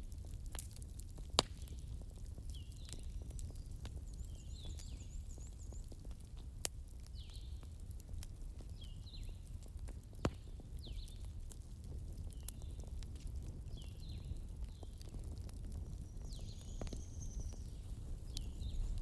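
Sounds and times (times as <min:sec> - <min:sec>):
fire crackles and pops: 0:00.0 - 0:19.0
fire low rumble: 0:00.0 - 0:19.0.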